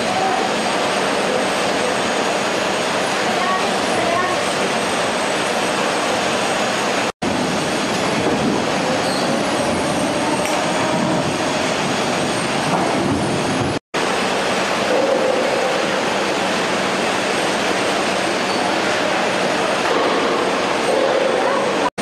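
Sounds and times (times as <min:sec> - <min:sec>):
conveyors and rollers rattling: 0:00.0 - 0:22.0.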